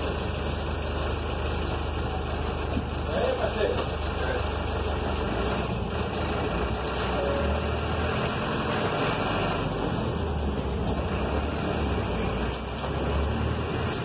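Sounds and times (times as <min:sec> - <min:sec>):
bus diesel engine humming: 0:00.0 - 0:14.0
road noise: 0:00.0 - 0:14.0.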